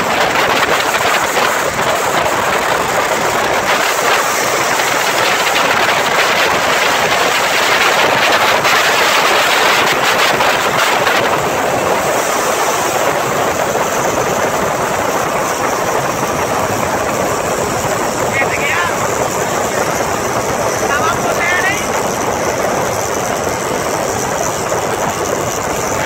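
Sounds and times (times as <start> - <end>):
road and wind noise: 0.0 - 26.0
vehicle engines at speed: 0.0 - 26.0.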